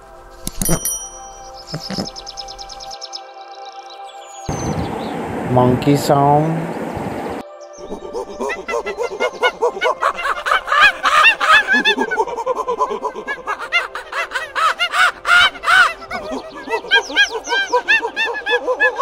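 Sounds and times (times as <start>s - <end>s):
monkeys chattering: 1.5s - 3.0s, 4.5s - 19.0s.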